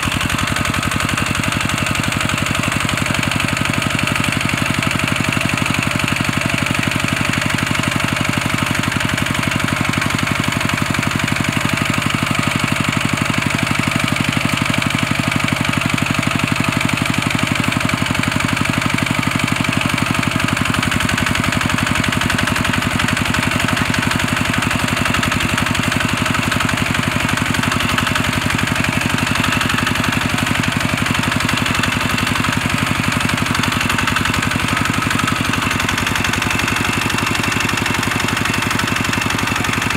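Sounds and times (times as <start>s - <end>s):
diesel engine running: 0.0s - 39.9s
wheels spinning in dry soil: 0.0s - 39.9s.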